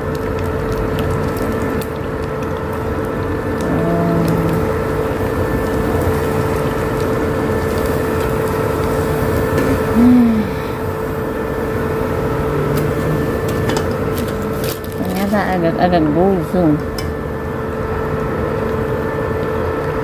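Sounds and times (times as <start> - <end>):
induction cooker humming: 0.0 - 20.0
prawn crackers frying in oil: 0.0 - 20.0.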